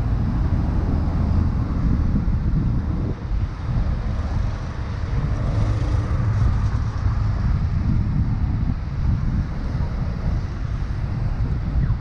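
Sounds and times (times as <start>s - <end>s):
car traffic passing: 0.0s - 12.0s
wind buffeting microphone: 0.0s - 12.0s.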